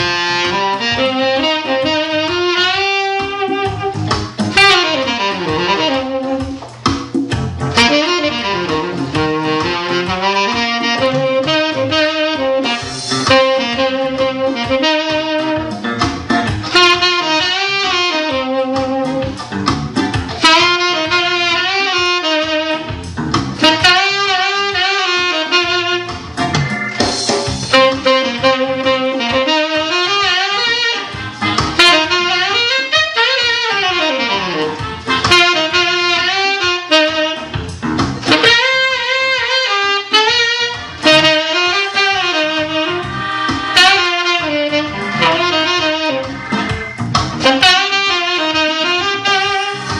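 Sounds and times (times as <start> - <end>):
backing track with steady beat: 0.0 - 49.9
saxophone jazz melody: 0.0 - 49.9.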